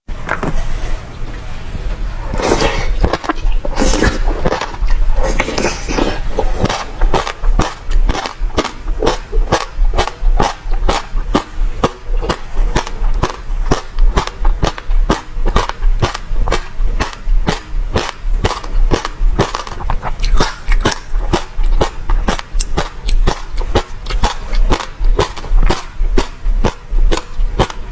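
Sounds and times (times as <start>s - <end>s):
crunching passion fruit seeds: 2.3s - 27.9s.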